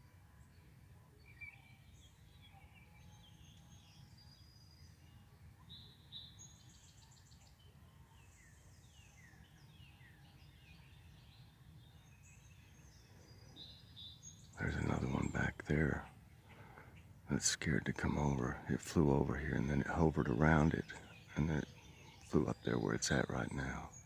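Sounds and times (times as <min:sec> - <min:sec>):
bird trill: 0:00.0 - 0:24.0
songbirds singing and chirping: 0:00.0 - 0:24.0.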